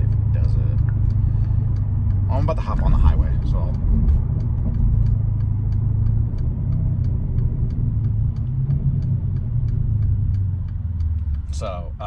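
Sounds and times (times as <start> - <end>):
car engine running: 0.0 - 12.0
turn signal ticking: 0.0 - 12.0.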